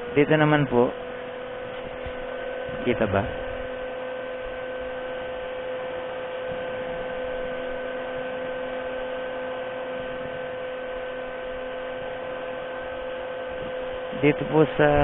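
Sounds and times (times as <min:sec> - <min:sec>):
welding machine electrical hum: 0:00.0 - 0:15.0.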